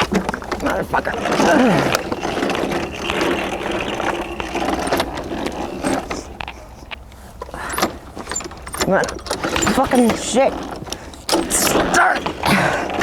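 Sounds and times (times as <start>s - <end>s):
lawnmower engine cranking: 0.0s - 13.0s.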